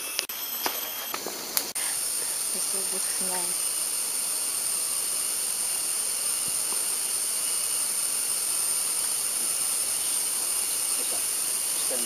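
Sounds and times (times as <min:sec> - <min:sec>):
even hiss: 0:00.0 - 0:12.0
insects droning: 0:00.0 - 0:12.0.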